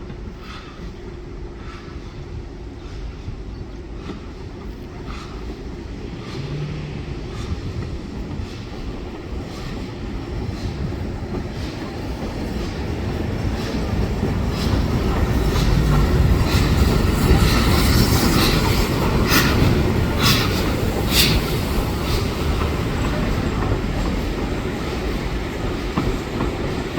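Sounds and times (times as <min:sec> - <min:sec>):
steam train approaching: 0:00.0 - 0:26.9.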